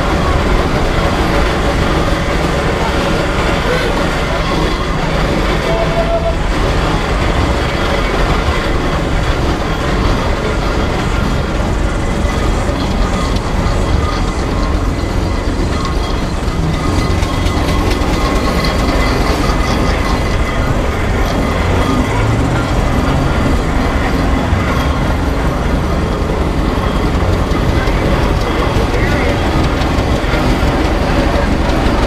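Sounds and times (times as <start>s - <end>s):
dense clatter: 0.0s - 32.0s
steam traction engine running: 0.0s - 32.0s.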